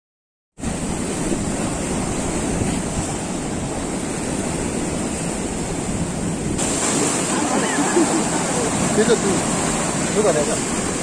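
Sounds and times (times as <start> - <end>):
surf washing over rocks: 0.6 - 11.0
wind rumbling on microphone: 0.6 - 11.0.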